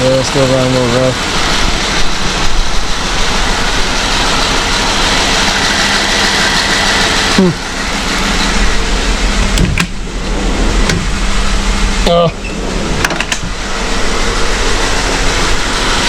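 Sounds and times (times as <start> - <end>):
loud rushing noise: 0.0 - 16.0
rough engine idle: 0.0 - 16.0
short falling whine: 0.0 - 16.0.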